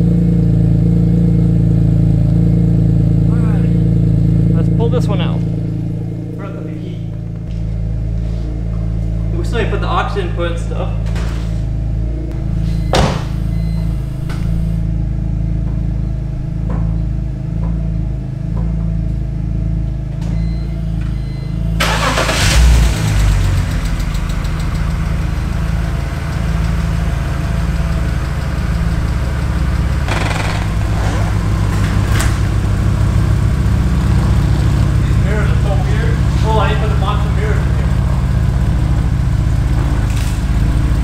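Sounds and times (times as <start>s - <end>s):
steady low hum: 0.0s - 21.8s, 25.0s - 41.0s
car engine starting and idling: 0.0s - 41.0s.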